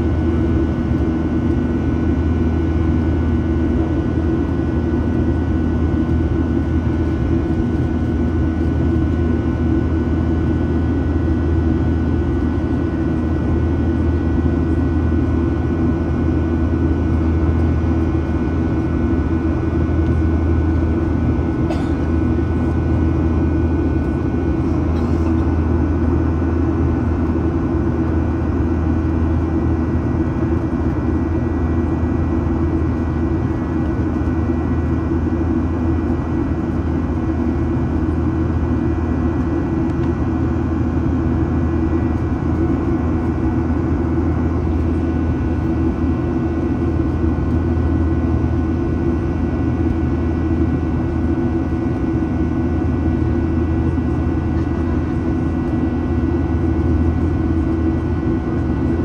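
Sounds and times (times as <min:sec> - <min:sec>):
faint steady whine: 0:00.0 - 0:59.0
jet engine cabin drone: 0:00.0 - 0:59.0.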